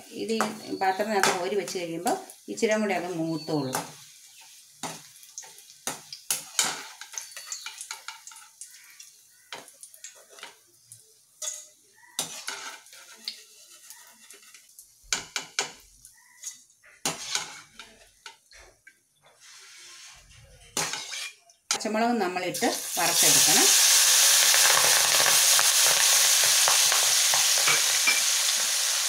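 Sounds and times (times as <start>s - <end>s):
frying oil sizzling: 0.0s - 18.5s, 20.8s - 29.0s.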